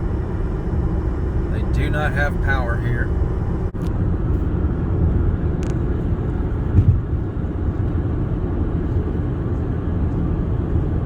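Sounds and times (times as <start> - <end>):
car road noise from inside: 0.0 - 11.0.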